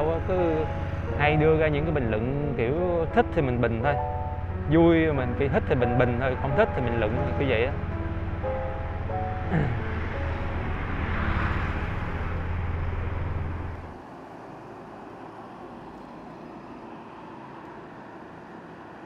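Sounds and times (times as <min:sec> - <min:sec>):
motorbike engine drone: 0:00.0 - 0:19.0
wind and road noise: 0:00.0 - 0:19.0.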